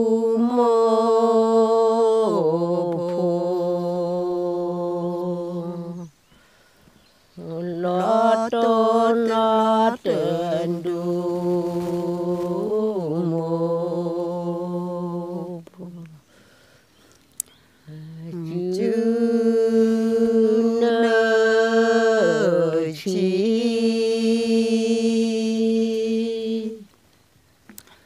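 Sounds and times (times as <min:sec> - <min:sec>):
woman chanting unaccompanied: 0:00.0 - 0:06.2, 0:07.4 - 0:16.2, 0:17.8 - 0:26.9.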